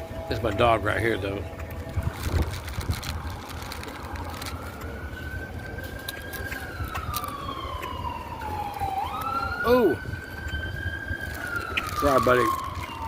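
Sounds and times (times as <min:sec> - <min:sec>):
low rumble of vehicles: 0:00.0 - 0:13.0
police siren wailing: 0:00.0 - 0:13.0.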